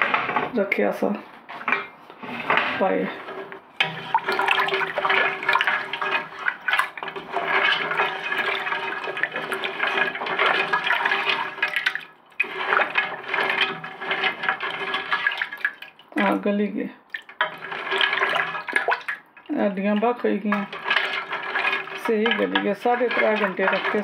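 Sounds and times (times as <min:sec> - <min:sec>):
wooden spoon stirring broth: 0:00.0 - 0:24.0.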